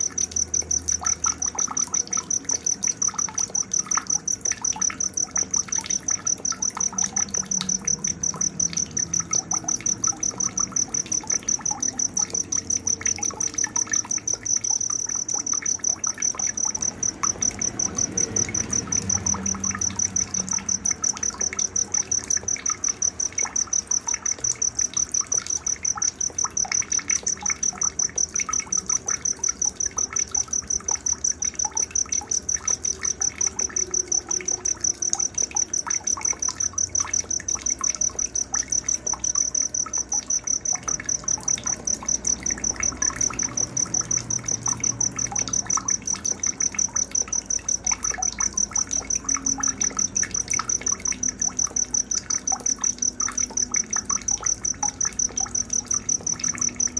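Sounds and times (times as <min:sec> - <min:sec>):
cricket pulsing trill: 0:00.0 - 0:56.9
faint insect chirps and calls: 0:00.0 - 0:56.9.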